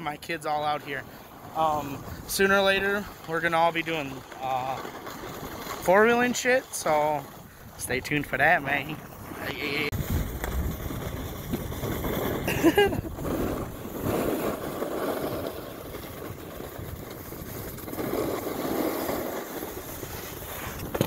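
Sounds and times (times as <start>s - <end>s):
snowboards scraping over snow: 0.0s - 21.0s.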